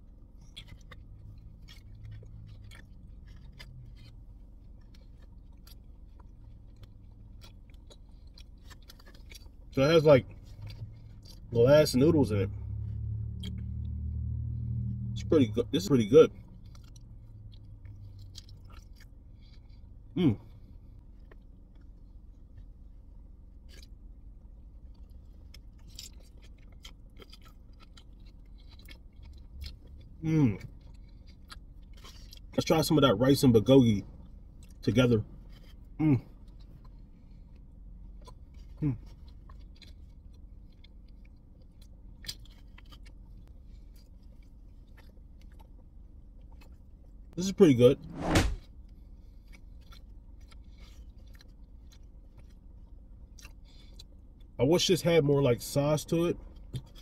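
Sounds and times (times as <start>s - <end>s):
chewing with wet mouth clicks: 0.0s - 12.1s, 13.2s - 14.8s, 16.2s - 33.4s, 34.2s - 47.4s, 48.8s - 54.6s, 56.4s - 57.0s
low steady hum: 0.0s - 57.0s.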